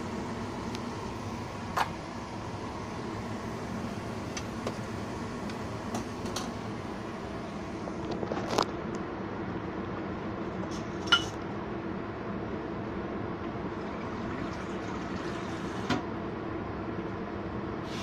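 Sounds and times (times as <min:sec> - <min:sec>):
steady background noise: 0:00.0 - 0:17.8.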